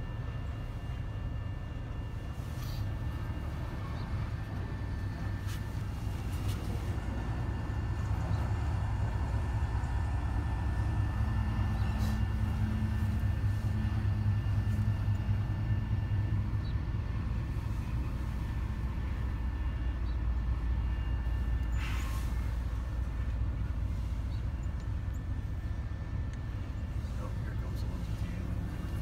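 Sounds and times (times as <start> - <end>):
diesel locomotive engine drone: 0.0 - 29.0
freight cars rumbling past: 2.6 - 29.0.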